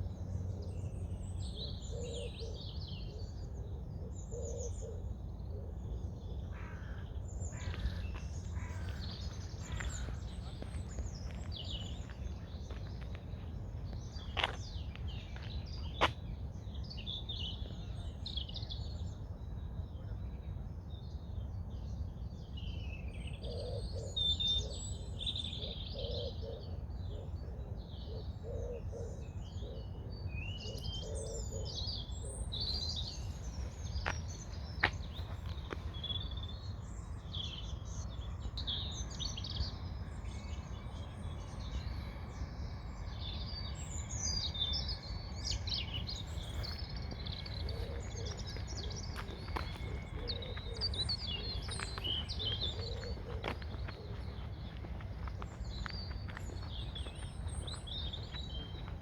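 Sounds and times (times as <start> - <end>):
low outdoor rumble: 0.0 - 59.0
songbirds singing: 0.0 - 59.0.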